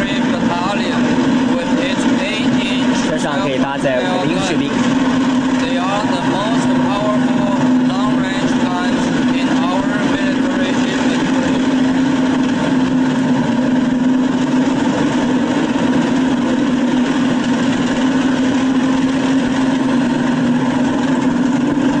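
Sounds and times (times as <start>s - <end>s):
tracked vehicles diesel drone: 0.0s - 22.0s.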